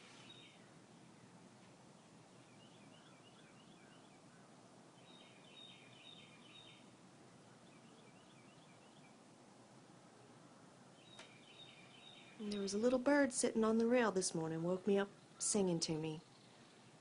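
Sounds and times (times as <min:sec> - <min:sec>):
songbird chirping: 0:00.0 - 0:17.0
steady outdoor hiss: 0:00.0 - 0:17.0.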